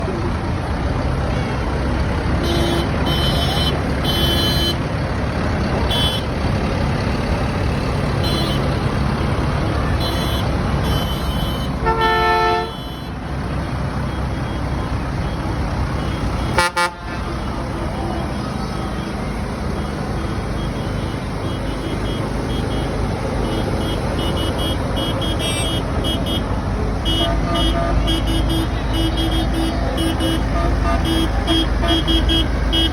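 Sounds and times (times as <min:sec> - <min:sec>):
tractor engines running: 0:00.0 - 0:32.9.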